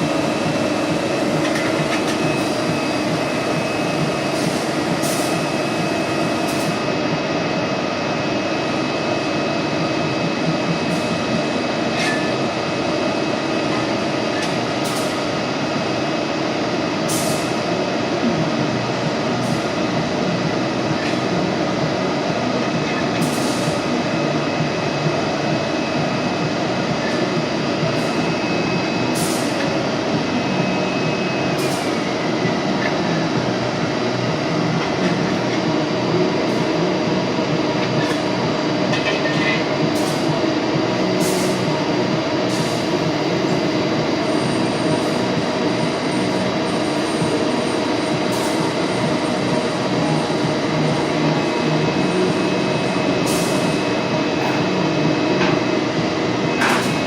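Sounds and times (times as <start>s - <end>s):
granulator machinery running: 0.0s - 57.0s.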